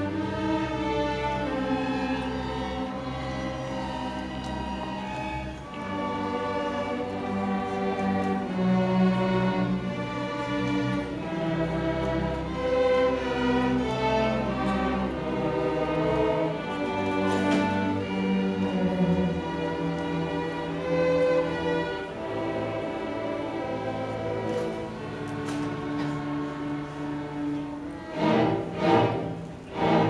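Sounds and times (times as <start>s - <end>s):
string orchestra playing held notes: 0.0s - 30.0s.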